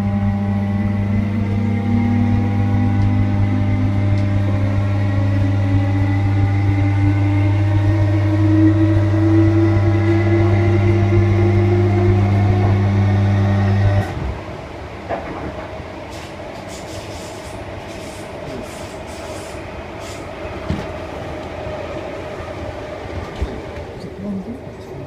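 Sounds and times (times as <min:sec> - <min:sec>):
train traction equipment humming: 0:00.0 - 0:25.0
wheels rumbling on rail: 0:00.0 - 0:25.0.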